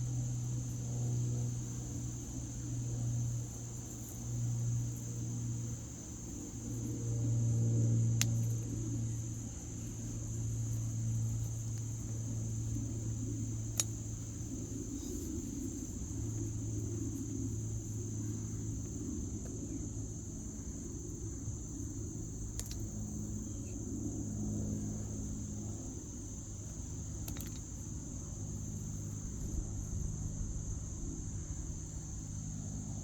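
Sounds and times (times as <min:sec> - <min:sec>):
insect drone: 0:00.0 - 0:33.0
low engine-like hum: 0:00.0 - 0:33.0.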